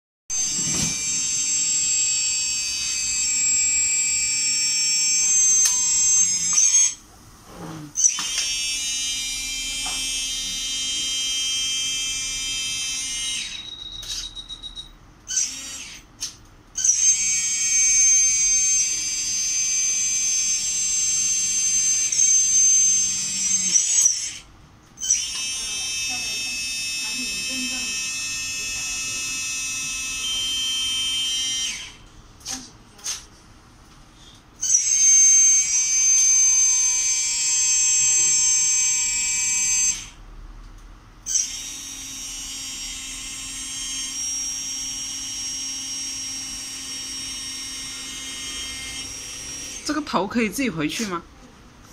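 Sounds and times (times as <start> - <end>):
toy truck motor whining: 0.4 - 7.0, 8.0 - 32.7, 34.3 - 40.2, 41.3 - 50.0.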